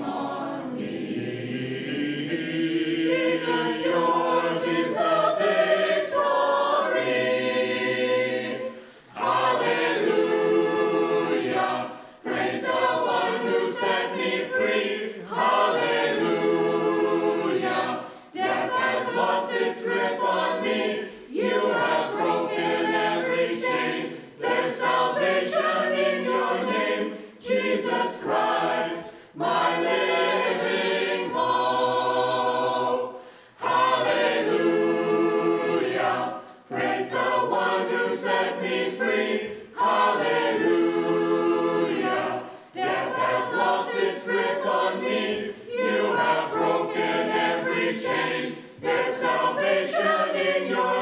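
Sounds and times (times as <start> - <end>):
mixed choir singing: 0.0 - 51.0.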